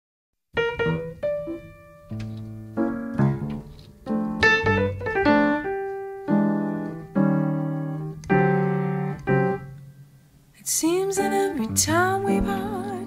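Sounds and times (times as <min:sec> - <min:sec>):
piano chords: 0:00.5 - 0:13.0.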